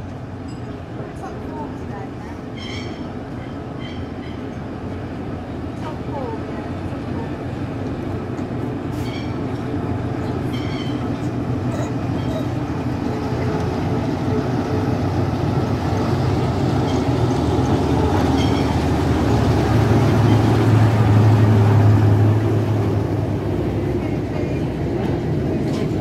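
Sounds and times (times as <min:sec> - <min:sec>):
diesel locomotive engine drone: 0:00.0 - 0:26.0
train rumbling on rails: 0:00.0 - 0:26.0.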